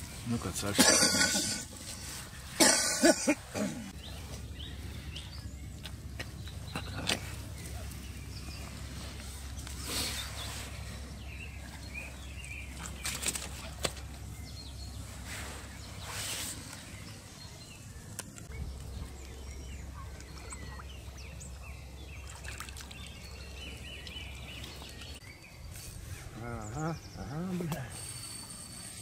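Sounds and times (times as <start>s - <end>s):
low background hum: 0.0s - 25.1s
small birds chirping: 0.0s - 29.0s.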